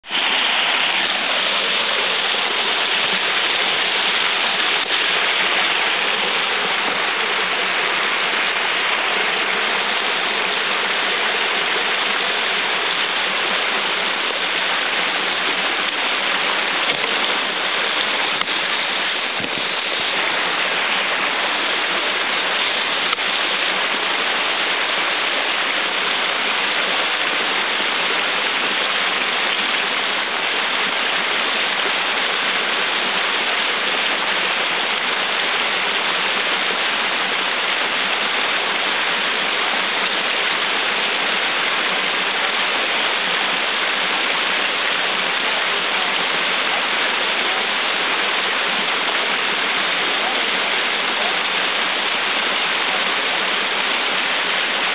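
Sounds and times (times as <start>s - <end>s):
water rushing over rock ledge: 0.0s - 54.9s.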